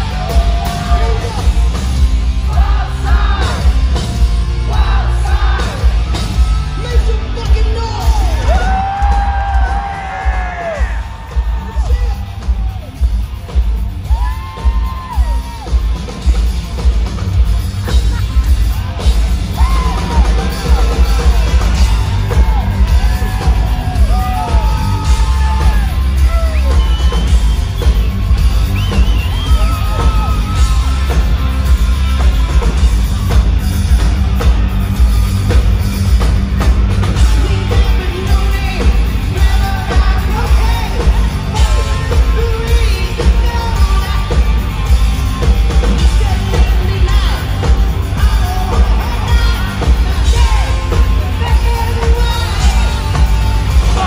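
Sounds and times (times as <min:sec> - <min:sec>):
live hard rock band: 0:00.0 - 0:54.0.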